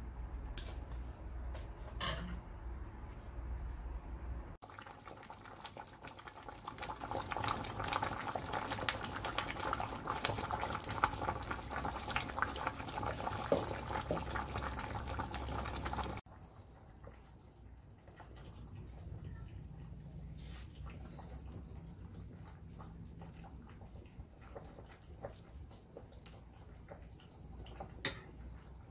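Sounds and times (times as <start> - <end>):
stew bubbling in a pot: 4.6 - 28.9.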